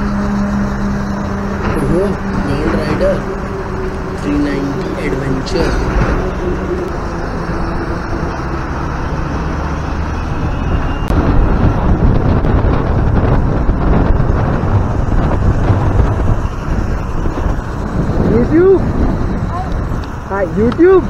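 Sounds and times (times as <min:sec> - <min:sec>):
motorcycle engine: 0:00.0 - 0:21.0
road noise: 0:00.0 - 0:21.0
wind buffeting microphone: 0:00.0 - 0:21.0.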